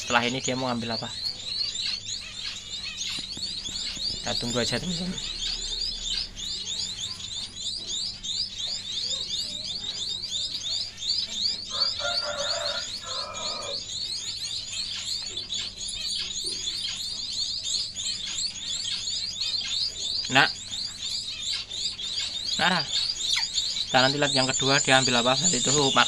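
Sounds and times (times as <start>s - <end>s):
faint steady hum: 0.0s - 26.0s
rapid high-pitched chirping: 0.0s - 26.0s.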